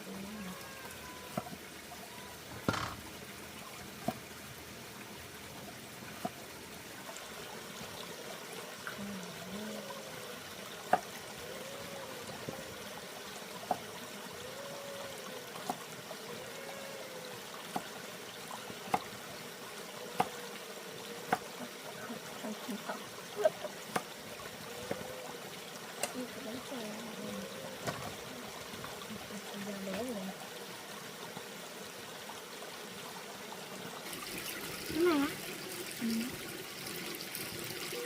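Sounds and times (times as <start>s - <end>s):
running water hiss: 0.0s - 38.0s.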